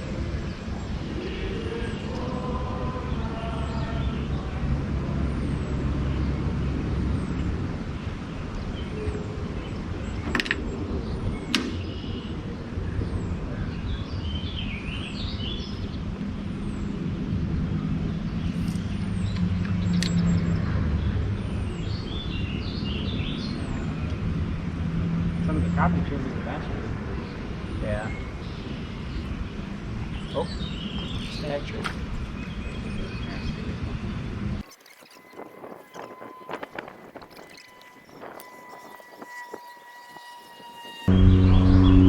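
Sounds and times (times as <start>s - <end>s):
boat motor humming: 0.0s - 11.9s, 15.5s - 30.8s, 34.6s - 42.0s
birds chirping: 0.0s - 42.0s.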